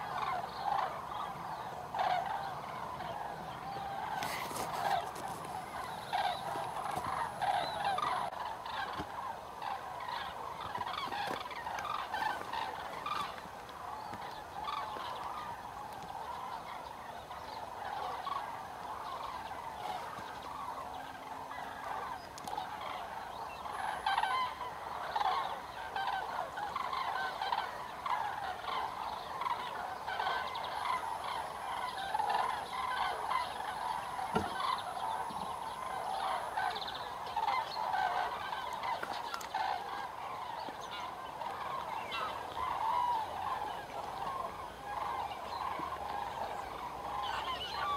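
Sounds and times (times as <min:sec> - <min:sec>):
flock of cranes calling: 0:00.0 - 0:47.9.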